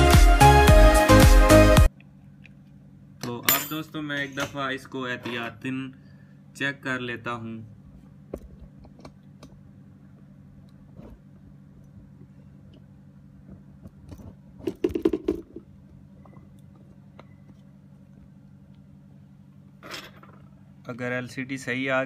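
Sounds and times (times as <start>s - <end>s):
steady low hum: 1.8s - 22.0s.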